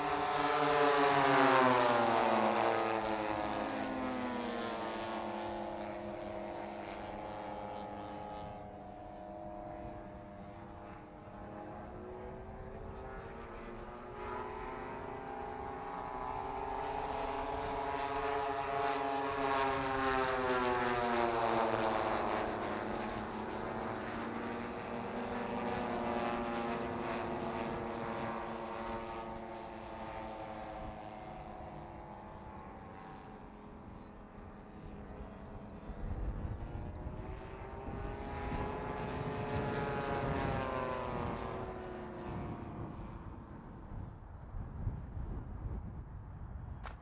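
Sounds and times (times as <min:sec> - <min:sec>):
model plane propeller engines droning: 0:00.0 - 0:47.0.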